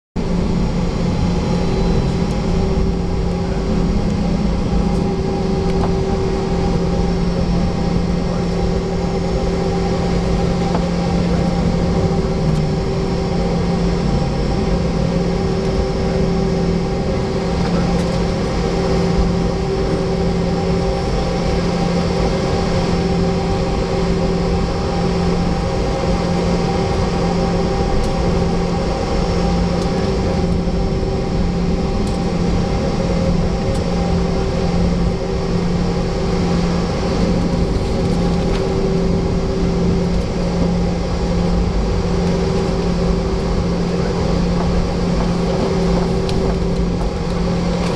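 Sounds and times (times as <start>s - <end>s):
jet engine cabin hum: 0.2s - 47.9s.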